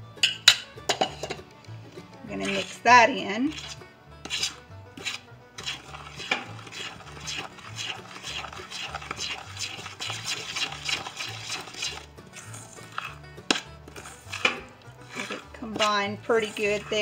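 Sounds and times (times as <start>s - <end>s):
fork stirring batter in metal bowl: 0.5s - 1.4s, 2.3s - 17.0s.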